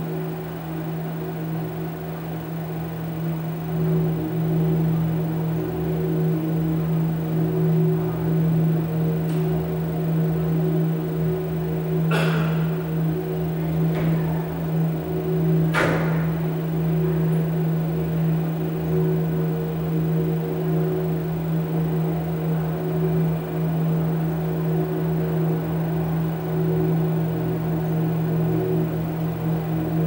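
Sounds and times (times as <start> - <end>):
low electronic hum: 0.0 - 30.0.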